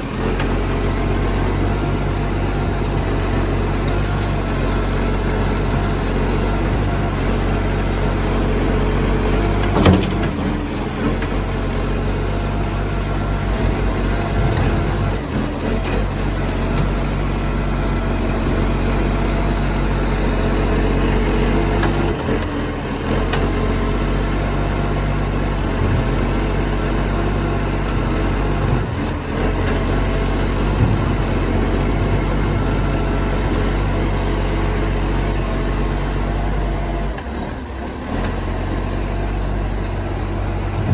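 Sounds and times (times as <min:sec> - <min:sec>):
loud diesel engine running: 0:00.0 - 0:40.9.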